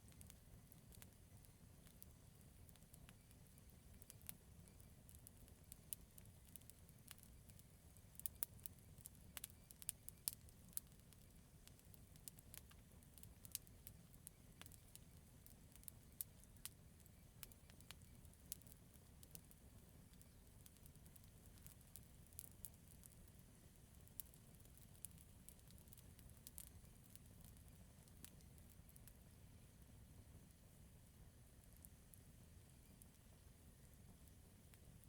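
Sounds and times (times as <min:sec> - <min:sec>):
campfire crackling and popping: 0:00.0 - 0:30.7, 0:31.5 - 0:35.0.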